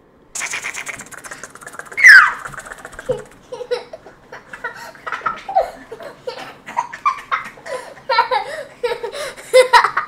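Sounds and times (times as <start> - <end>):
child laughing: 0.4 - 10.0.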